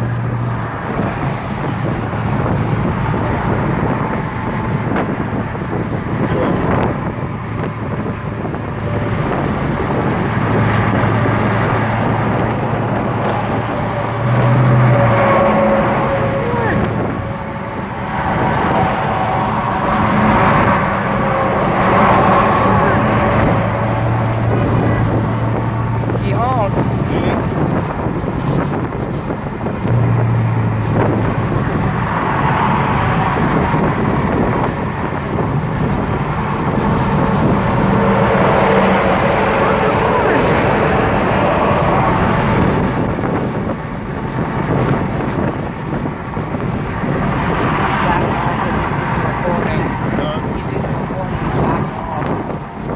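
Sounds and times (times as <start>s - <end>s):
road traffic rushing by: 0.0s - 52.9s
vehicle engine hum passing: 0.0s - 52.9s
wind on microphone: 0.0s - 52.9s.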